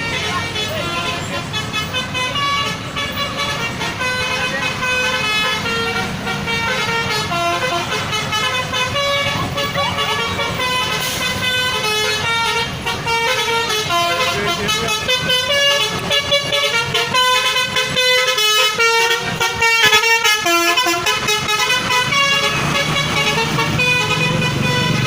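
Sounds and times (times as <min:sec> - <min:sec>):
multi-tone musical air horn: 0:00.0 - 0:25.0.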